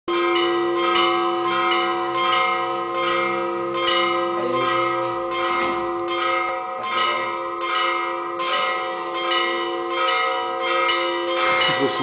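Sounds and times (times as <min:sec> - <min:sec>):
church bells ringing: 0:00.1 - 0:12.0.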